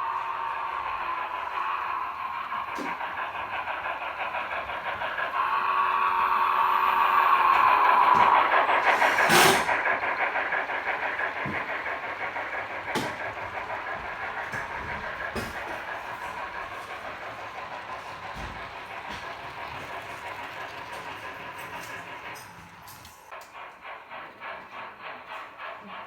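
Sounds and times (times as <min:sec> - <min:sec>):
model train humming and whining: 0:00.0 - 0:26.0.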